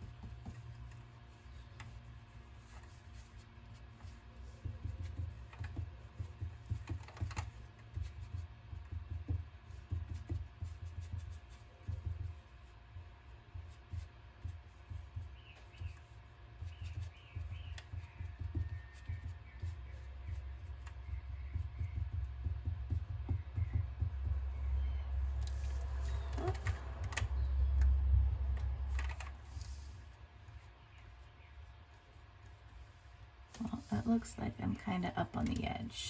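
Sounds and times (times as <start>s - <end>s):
brush thumping and rubbing on paper: 0.0s - 34.4s.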